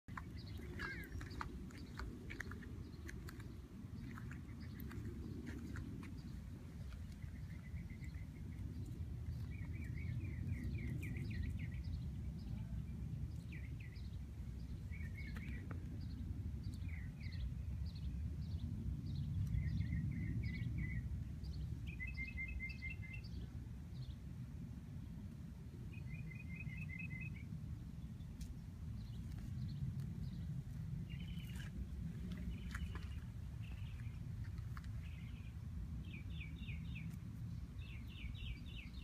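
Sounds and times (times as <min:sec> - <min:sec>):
small birds chirping and trilling: 0:00.1 - 0:24.2, 0:25.9 - 0:39.0
low outdoor rumble: 0:00.1 - 0:39.0.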